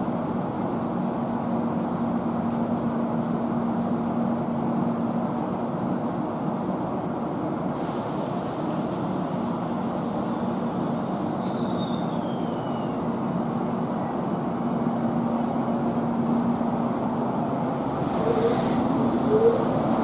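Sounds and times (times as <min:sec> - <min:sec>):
train rumbling slowly: 0:00.0 - 0:20.0.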